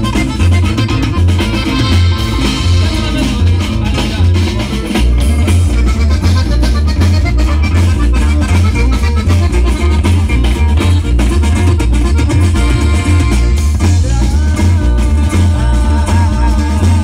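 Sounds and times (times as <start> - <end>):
accordion: 0.0 - 17.0
bass: 0.0 - 17.0
drum kit: 0.0 - 17.0
guitar: 0.0 - 17.0.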